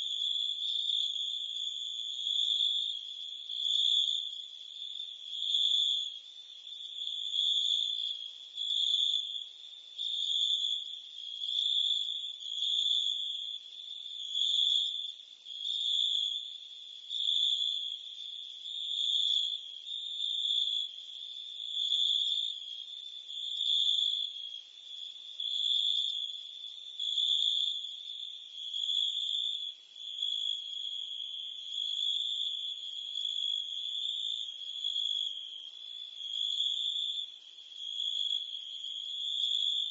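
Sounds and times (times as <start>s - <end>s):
crickets and cicadas chirping: 0.0s - 39.9s.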